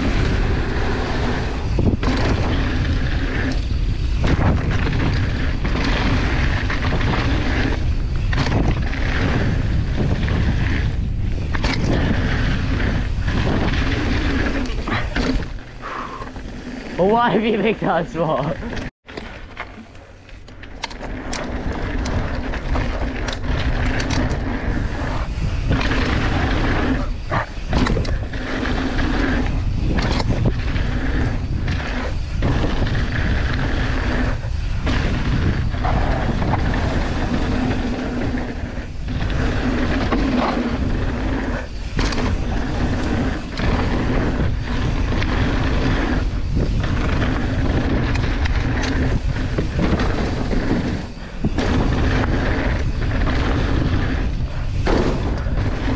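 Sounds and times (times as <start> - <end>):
wind rushing over microphone: 0.0 - 18.9, 20.8 - 55.9
bike rattling: 0.0 - 55.9
bike tyre noise on gravel: 0.0 - 55.9.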